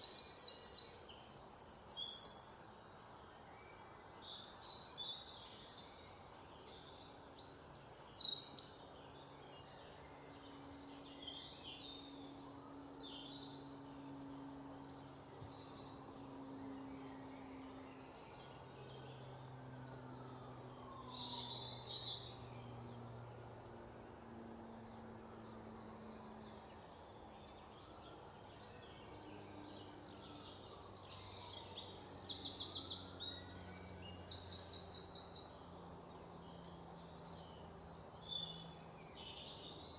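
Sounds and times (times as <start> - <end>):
low background hum: 0.0 - 39.9
songbirds chirping and trilling: 0.0 - 39.9.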